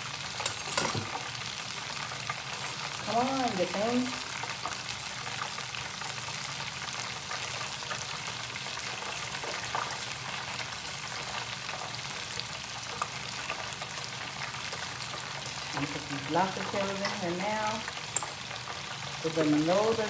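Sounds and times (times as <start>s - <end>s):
shrimp deep-frying in oil: 0.0s - 20.0s.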